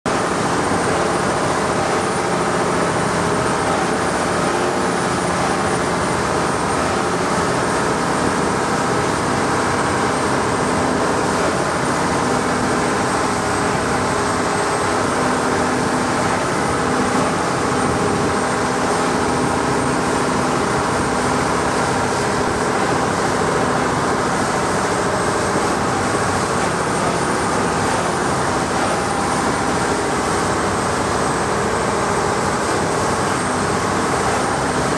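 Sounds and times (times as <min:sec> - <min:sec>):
boat engine droning: 0:00.1 - 0:34.9
hull rushing through water: 0:00.1 - 0:34.9.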